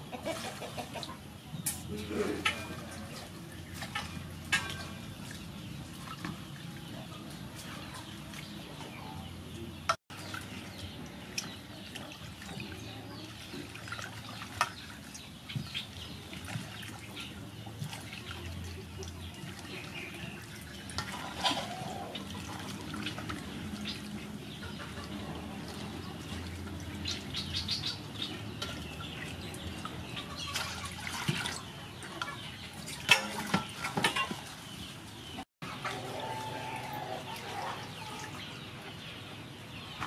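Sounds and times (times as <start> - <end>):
water splashing and dripping: 0.1 - 39.2.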